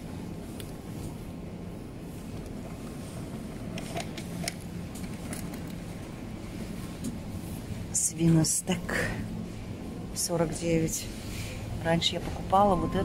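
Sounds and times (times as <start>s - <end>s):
store machinery hum: 0.0s - 13.0s.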